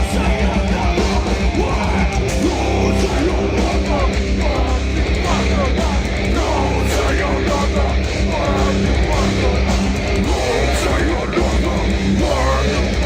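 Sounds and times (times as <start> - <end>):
distorted electric guitars: 0.0 - 13.0
heavy low end: 0.0 - 13.0.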